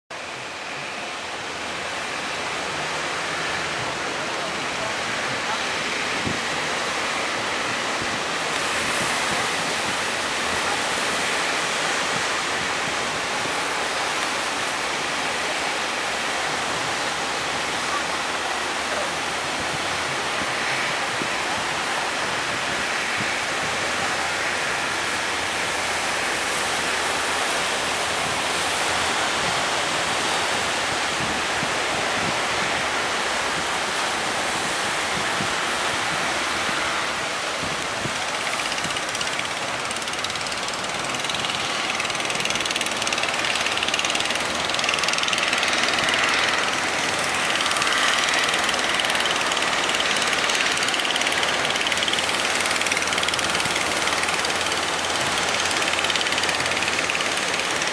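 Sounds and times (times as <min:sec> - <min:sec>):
ocean waves breaking: 0:00.2 - 0:57.9.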